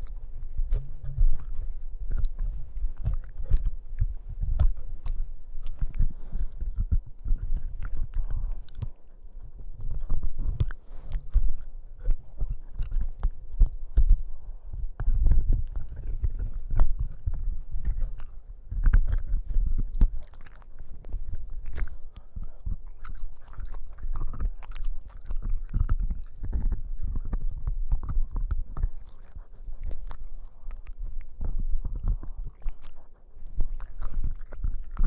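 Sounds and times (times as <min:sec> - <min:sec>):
puppy chewing hard object: 0:00.0 - 0:35.0.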